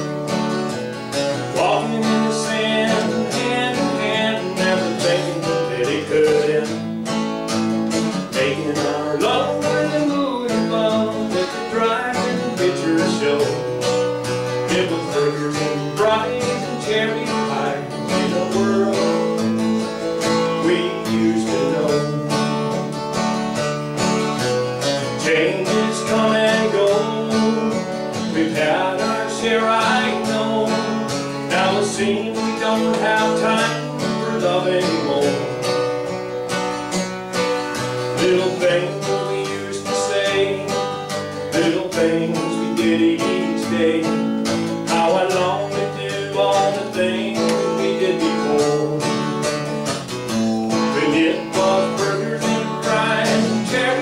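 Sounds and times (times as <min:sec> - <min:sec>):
man singing a country song: 0:00.0 - 0:36.7, 0:37.3 - 0:54.0
strummed acoustic guitar: 0:00.0 - 0:54.0.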